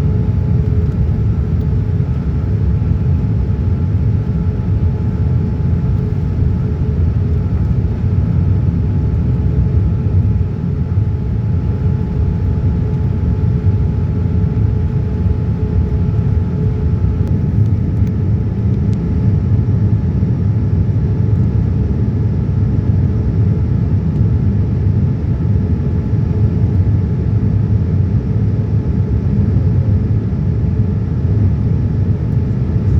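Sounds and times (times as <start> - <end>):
airliner cabin engine rumble: 0.0 - 32.9
faint steady hum: 0.0 - 32.9.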